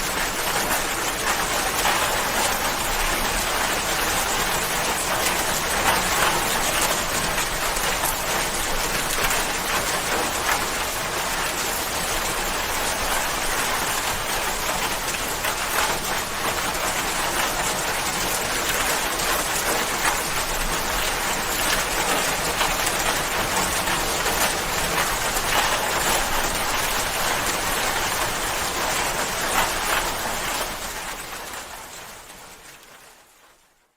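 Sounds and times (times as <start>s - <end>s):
dense rain falling: 0.0s - 33.9s.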